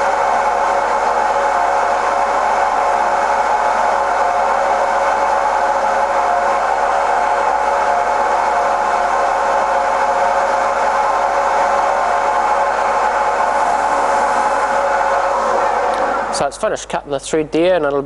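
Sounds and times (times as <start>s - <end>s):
lathe machine hum: 0.0s - 16.9s.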